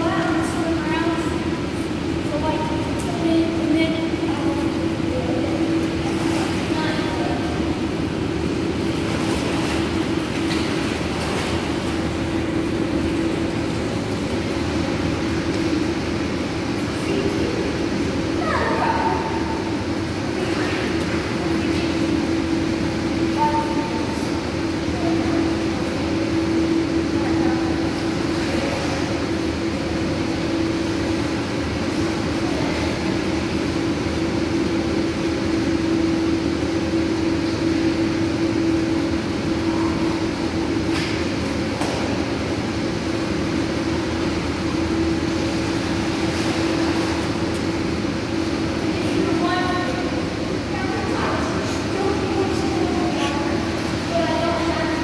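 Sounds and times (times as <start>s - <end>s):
steady machinery hum: 0.0s - 55.0s.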